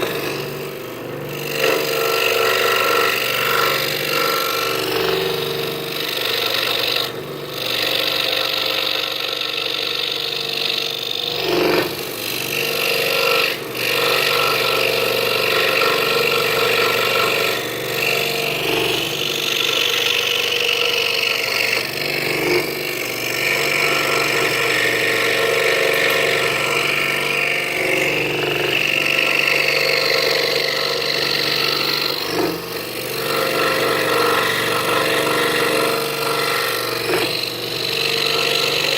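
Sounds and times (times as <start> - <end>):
scroll saw cutting wood: 0.0 - 38.9.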